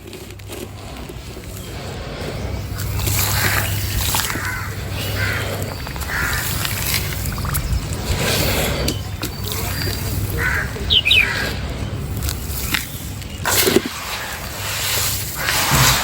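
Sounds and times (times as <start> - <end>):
steady low hum: 0.0 - 16.0
bird calling: 1.3 - 16.0.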